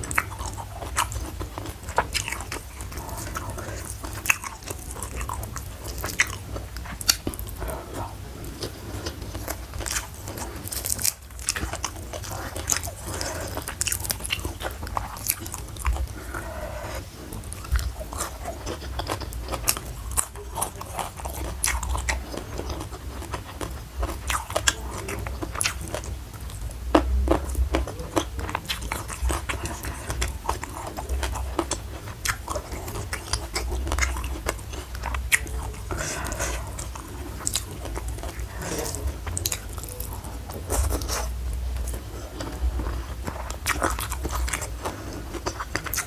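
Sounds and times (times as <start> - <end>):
chewing crunchy food: 0.0 - 46.0.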